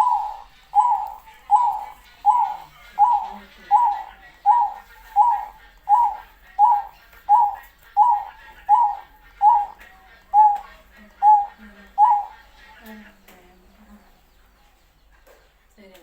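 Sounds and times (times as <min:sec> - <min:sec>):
dove cooing: 0:00.0 - 0:13.2.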